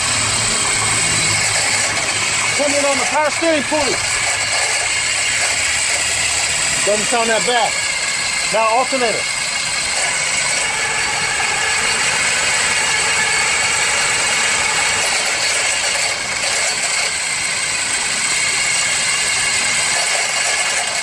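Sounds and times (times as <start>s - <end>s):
alternator rattle: 0.0s - 21.0s
car engine idling: 0.0s - 21.0s.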